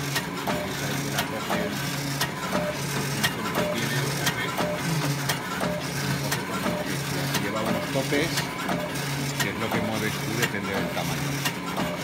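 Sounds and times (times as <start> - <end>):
motor hum: 0.0 - 12.0
paper punching machine clacking: 0.0 - 12.0.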